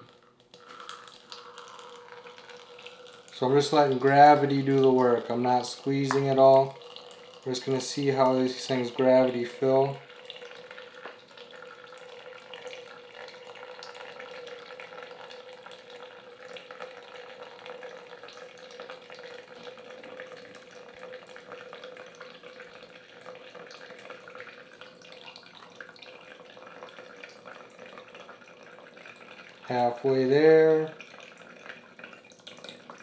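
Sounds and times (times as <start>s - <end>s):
water trickling into plastic cup: 0.0s - 33.0s.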